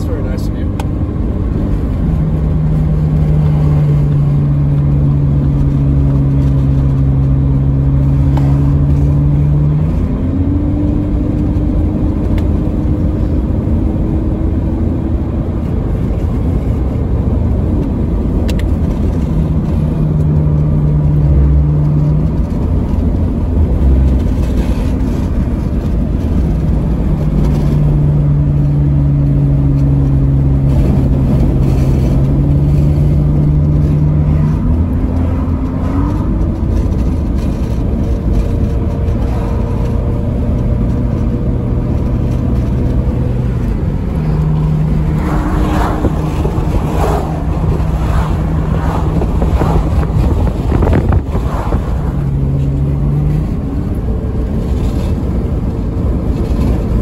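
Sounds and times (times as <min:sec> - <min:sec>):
car engine hum: 0:00.0 - 0:57.0
road and tyre rumble: 0:00.0 - 0:57.0.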